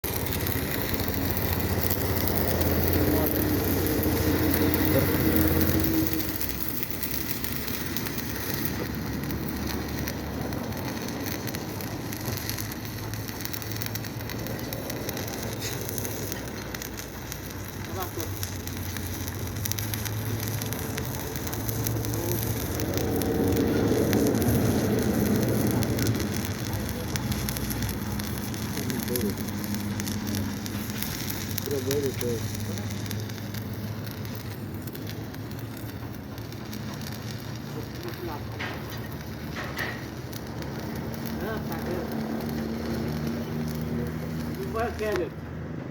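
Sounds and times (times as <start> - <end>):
arc welding crackling sizzle: 0.0 - 45.9.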